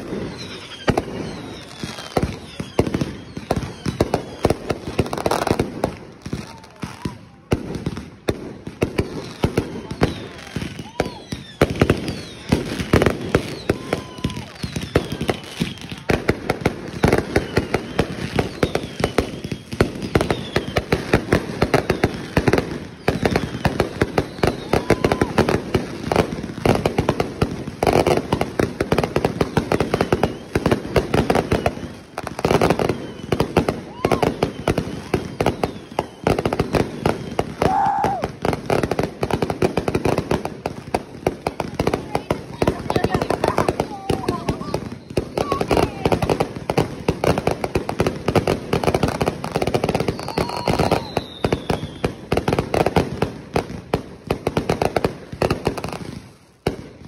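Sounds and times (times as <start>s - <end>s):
fireworks cracking and banging: 0.0s - 57.0s.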